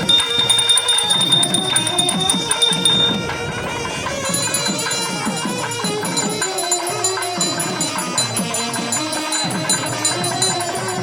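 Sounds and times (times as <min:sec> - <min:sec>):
quick steady drumming: 0:00.0 - 0:11.0
reedy wind instrument melody: 0:00.0 - 0:11.0.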